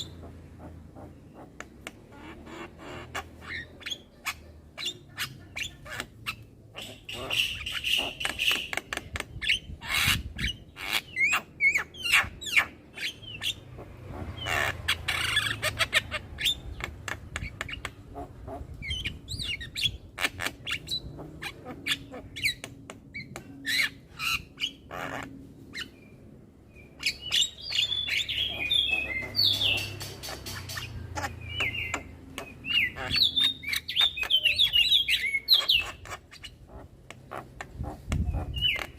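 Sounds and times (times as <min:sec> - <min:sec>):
myna bird chattering: 0:00.0 - 0:38.9.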